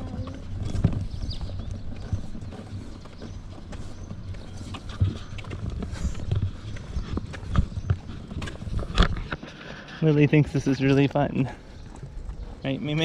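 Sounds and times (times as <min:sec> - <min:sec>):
footsteps on pavement: 0:00.0 - 0:13.0.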